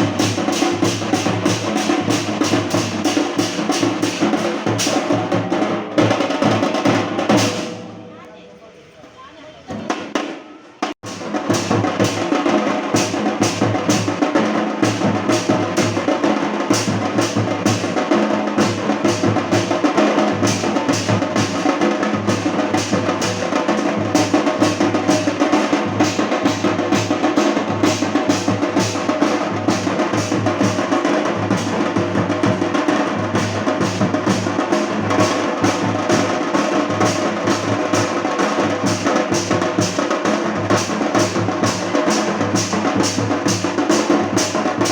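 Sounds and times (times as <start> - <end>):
drums beating fast rhythm: 0.0 - 8.6, 9.6 - 44.9.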